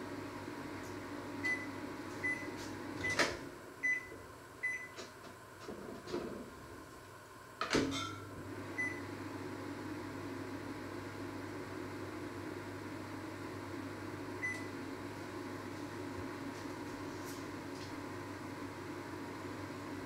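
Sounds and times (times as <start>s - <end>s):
appliance hum: 0.0s - 20.0s.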